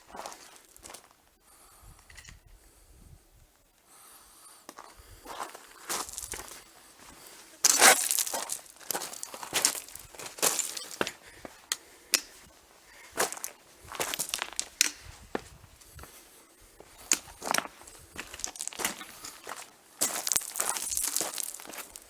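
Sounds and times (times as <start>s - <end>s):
footsteps crunching on stony ground: 0.0s - 1.2s, 4.6s - 22.0s.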